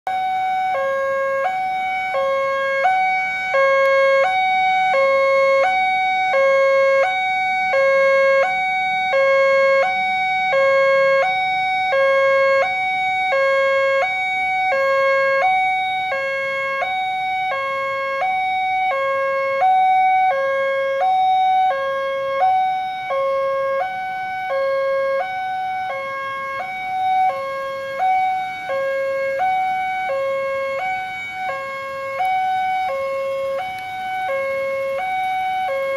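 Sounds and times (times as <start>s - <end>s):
two-tone level crossing alarm: 0.1s - 35.9s.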